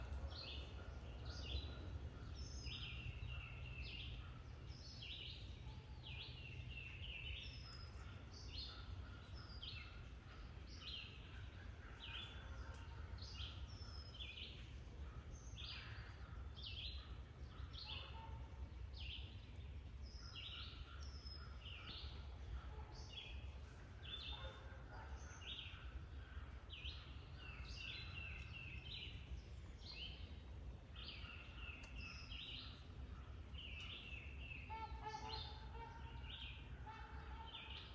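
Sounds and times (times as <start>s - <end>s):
songbirds singing: 0.0s - 37.9s.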